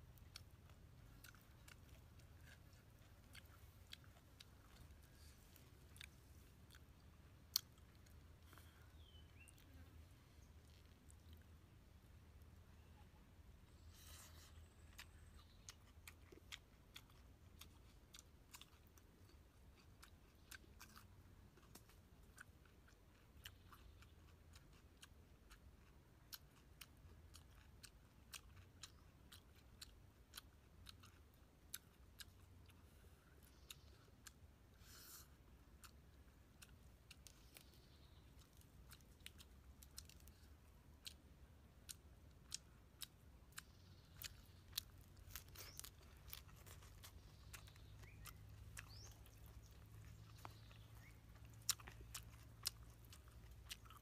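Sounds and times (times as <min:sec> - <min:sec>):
crunchy chewing: 0:00.0 - 0:54.0.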